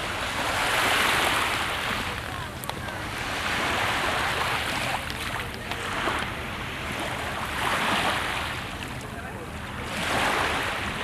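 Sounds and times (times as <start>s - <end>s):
sea waves breaking on shore: 0.0s - 11.0s.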